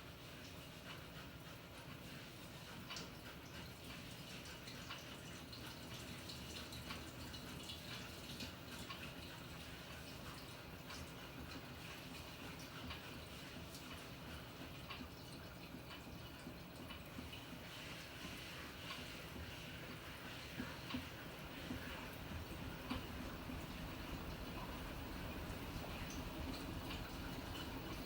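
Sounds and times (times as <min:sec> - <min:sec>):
water splashing in washing machine: 0:00.0 - 0:28.0.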